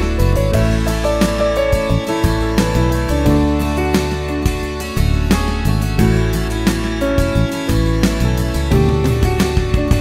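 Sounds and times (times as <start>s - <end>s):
plucked instrumental music: 0.0s - 10.0s.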